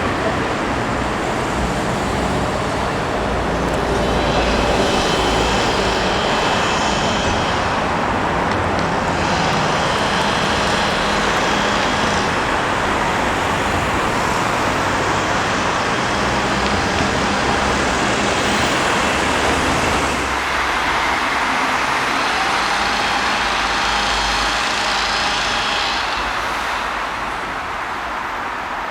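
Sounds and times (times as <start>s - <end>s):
train passing: 0.0s - 28.9s.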